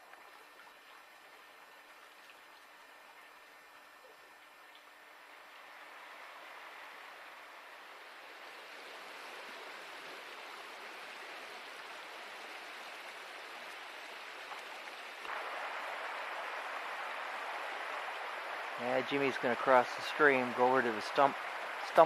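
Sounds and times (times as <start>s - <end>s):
stream running over gravel: 0.0s - 22.0s.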